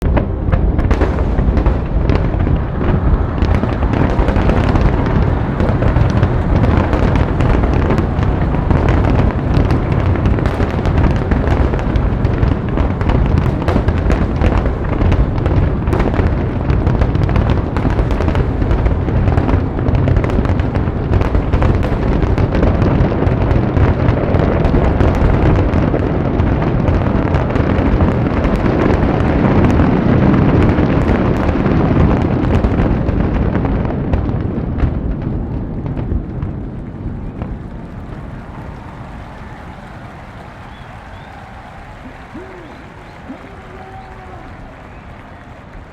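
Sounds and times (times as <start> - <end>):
fireworks booms and cracks: 0.0 - 45.9.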